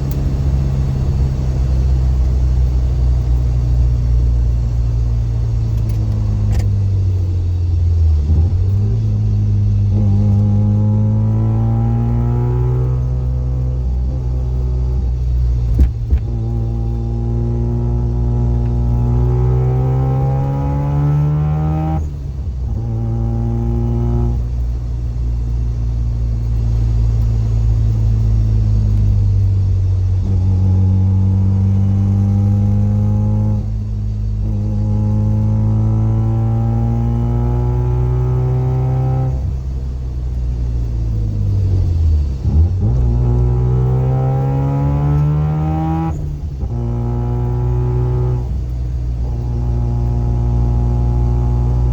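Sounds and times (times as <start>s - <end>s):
rotary engine accelerating: 0.0s - 24.7s, 26.5s - 51.9s
differential gear whine: 0.0s - 51.9s.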